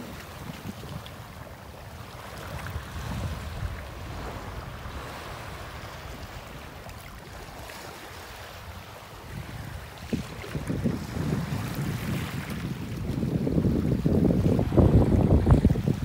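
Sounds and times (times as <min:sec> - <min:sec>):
water splashing against boat: 0:00.0 - 0:16.0
wind buffeting microphone: 0:00.0 - 0:16.0.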